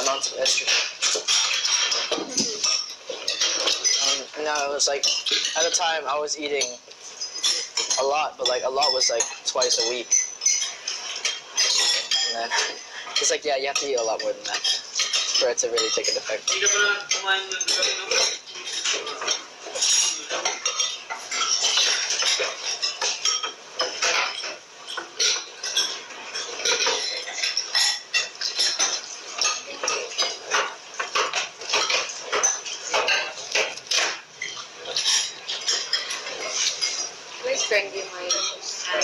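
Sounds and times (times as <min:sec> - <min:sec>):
cutlery clinking on plates: 0:00.0 - 0:39.0.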